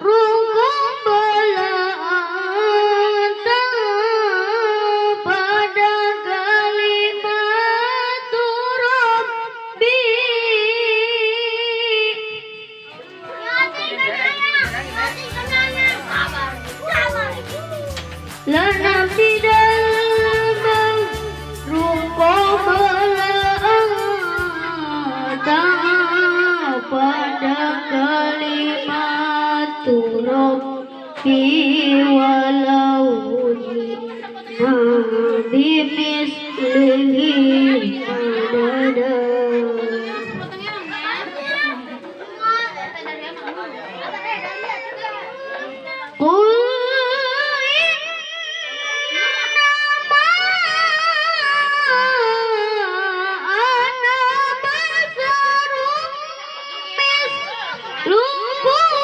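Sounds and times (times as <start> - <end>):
boy reciting melodically: 0.0 - 17.7, 18.4 - 59.0.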